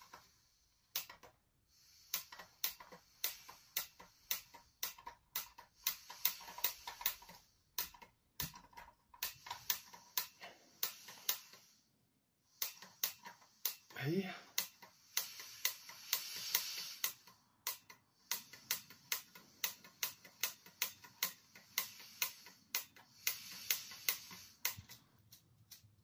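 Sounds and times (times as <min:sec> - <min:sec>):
rapid sharp clicks: 0:00.0 - 0:11.7, 0:12.5 - 0:26.0.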